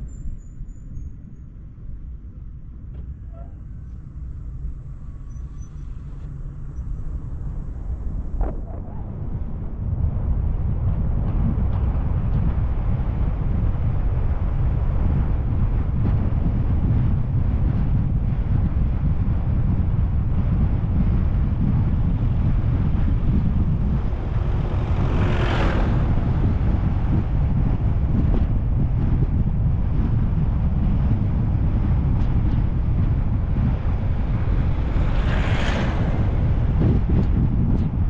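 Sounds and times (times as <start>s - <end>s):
car road and engine rumble: 0.0s - 38.0s
wind buffeting microphone: 0.0s - 38.0s.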